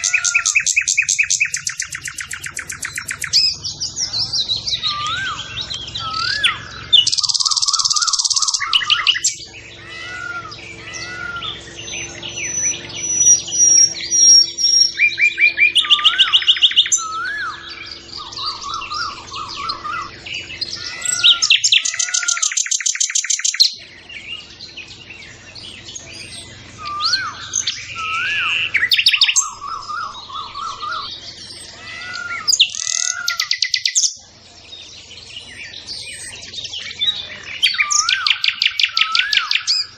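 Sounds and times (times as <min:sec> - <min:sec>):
fast high bird trills: 0:00.0 - 0:34.2, 0:35.4 - 0:39.9
small birds chirping: 0:00.0 - 0:39.9.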